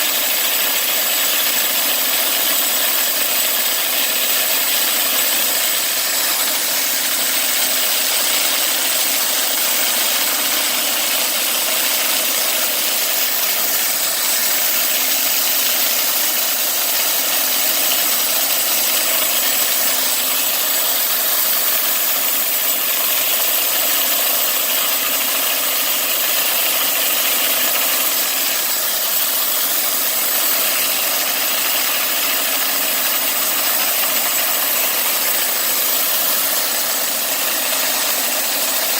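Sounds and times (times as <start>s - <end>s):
bandsaw mill running: 0.0s - 38.9s.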